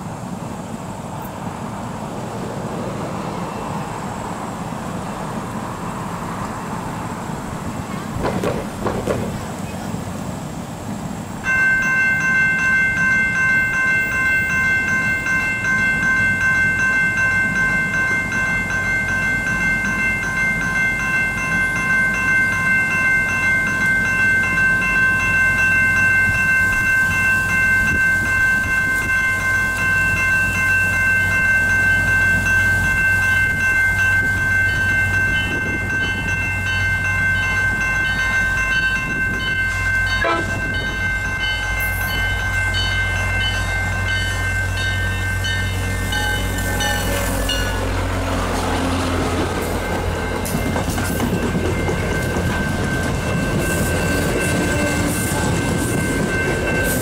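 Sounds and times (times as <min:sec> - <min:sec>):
crossing warning bells ringing: 0:03.0 - 0:57.0.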